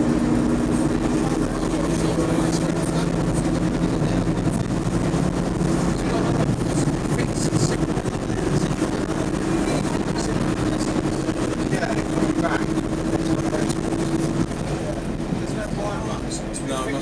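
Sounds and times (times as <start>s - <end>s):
train drone: 0.0s - 17.0s
wheels rumbling on rail: 0.0s - 17.0s.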